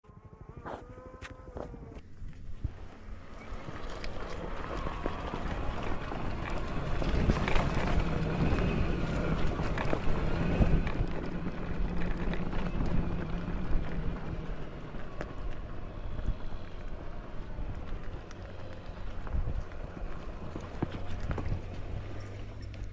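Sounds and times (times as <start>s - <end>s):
dirt bike engine running: 0.0s - 22.9s
wind buffeting microphone: 0.2s - 22.9s.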